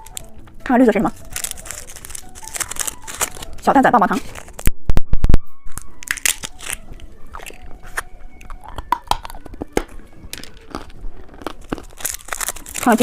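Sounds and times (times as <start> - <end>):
candy packaging crackling: 0.0 - 4.7, 5.7 - 13.0.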